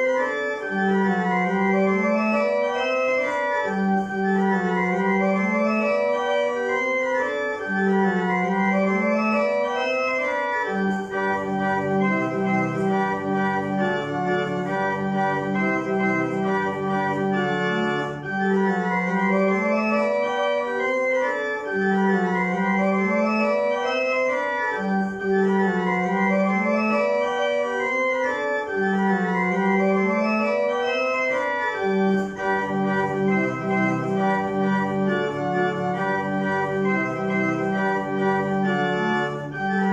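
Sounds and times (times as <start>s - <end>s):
pipe organ playing a lively dance: 0.0s - 39.9s.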